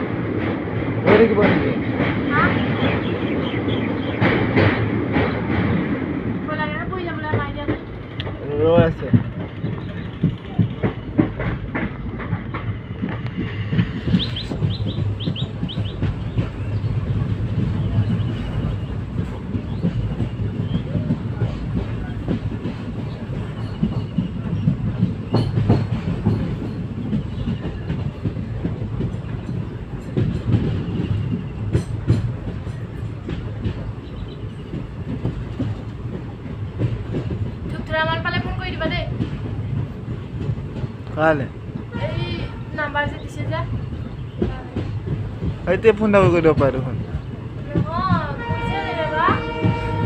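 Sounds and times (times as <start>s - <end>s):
rail clacks and knocks: 0.0s - 50.0s
train wheels rumbling: 0.0s - 50.0s.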